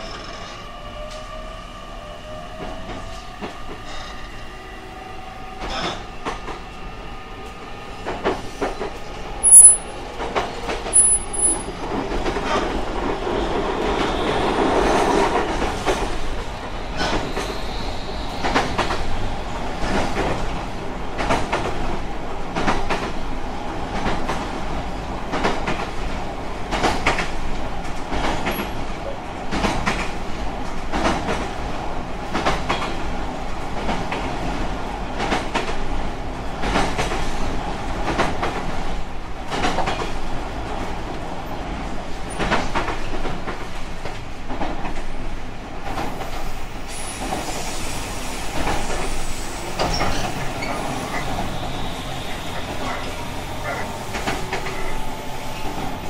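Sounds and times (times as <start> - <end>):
rail-joint clickety-clack: 0.0 - 1.6, 2.2 - 4.6, 5.4 - 56.0
electric train rumbling: 0.0 - 56.0.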